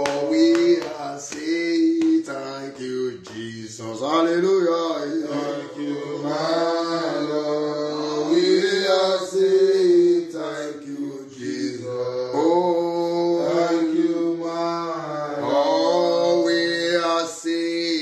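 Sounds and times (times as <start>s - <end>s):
man singing chant-like song: 0.0s - 18.0s.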